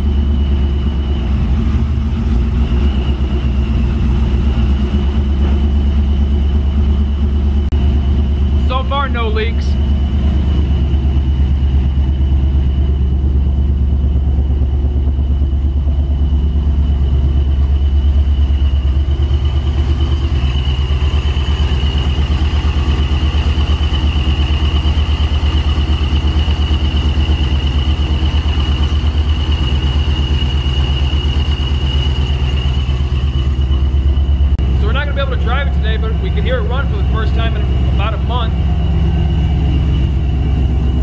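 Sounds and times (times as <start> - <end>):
high-pitched whine: 0.0 - 41.0
truck engine idling: 0.0 - 41.0.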